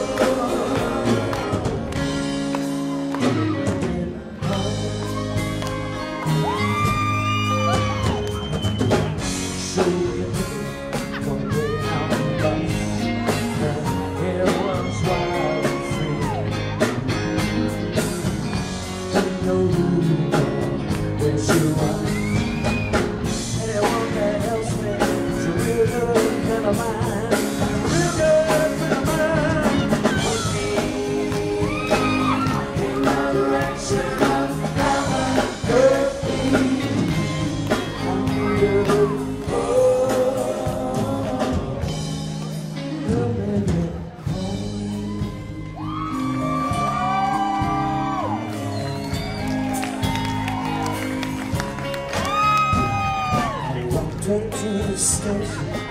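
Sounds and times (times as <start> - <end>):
person singing: 0.0 - 8.3, 9.2 - 48.7, 52.2 - 55.9
drums: 0.0 - 55.9
guitar: 0.0 - 55.9
rock band playing: 0.0 - 55.9.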